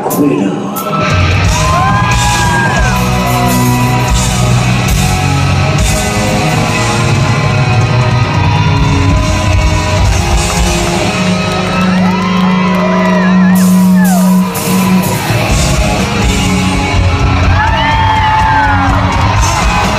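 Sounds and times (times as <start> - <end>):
live rock band playing: 0.0 - 19.9
audience whooping and shouting: 0.8 - 19.9.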